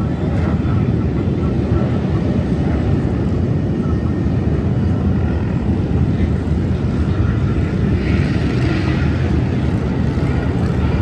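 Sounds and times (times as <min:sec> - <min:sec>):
many motorcycle engines rumbling: 0:00.0 - 0:11.0.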